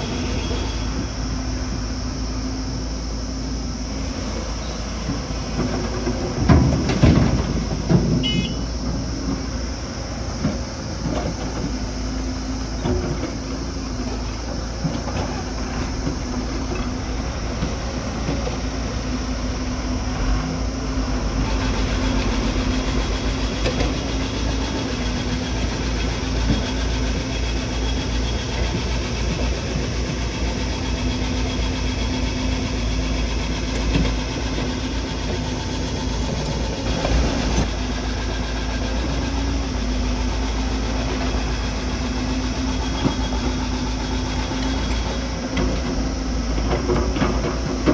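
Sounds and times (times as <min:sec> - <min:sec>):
heavy machinery diesel engine: 0:00.0 - 0:47.9.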